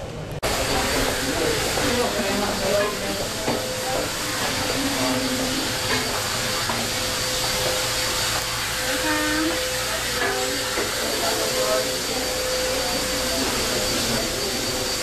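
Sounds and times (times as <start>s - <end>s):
faint voices: 0.4s - 15.0s.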